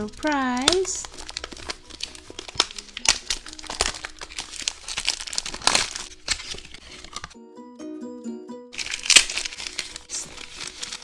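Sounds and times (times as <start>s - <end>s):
plastic shrink-wrap crinkling: 0.0s - 7.4s, 8.8s - 11.0s.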